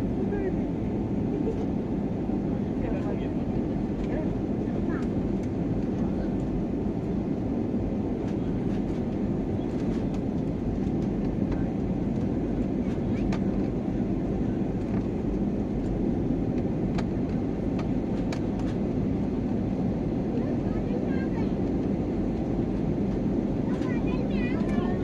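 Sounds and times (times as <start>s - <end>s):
airliner engines in cabin: 0.0s - 25.0s.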